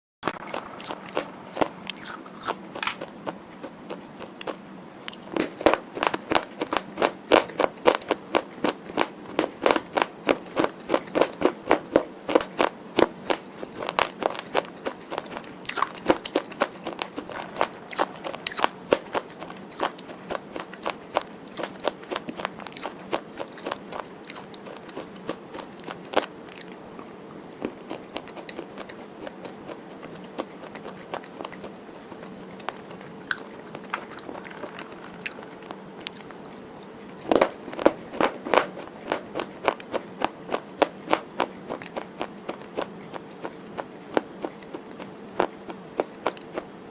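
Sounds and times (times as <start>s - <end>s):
crunchy chewing: 0.2s - 46.9s.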